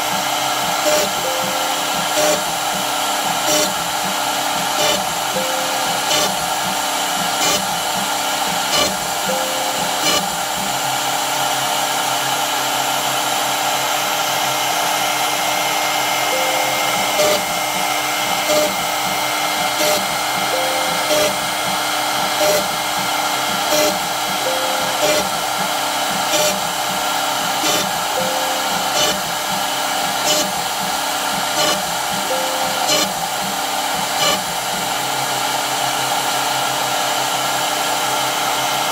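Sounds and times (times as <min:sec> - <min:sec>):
drill bit cutting wood: 0:00.0 - 0:38.9
router spindle whine: 0:00.0 - 0:38.9.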